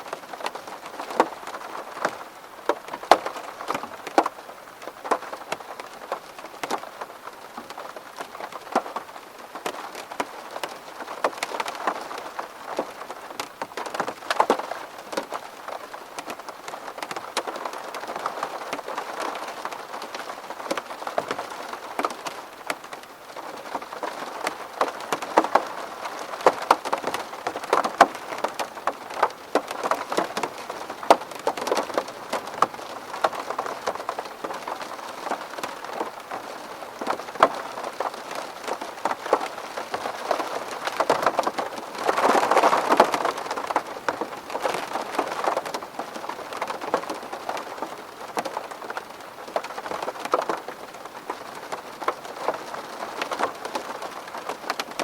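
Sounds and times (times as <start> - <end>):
rain ticking on window glass: 0.0 - 55.0.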